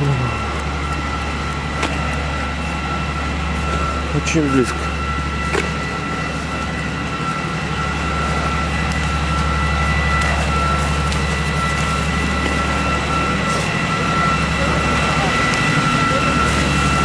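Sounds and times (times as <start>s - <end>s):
diesel engine droning: 0.0s - 17.0s
thin steady whine: 0.0s - 17.0s.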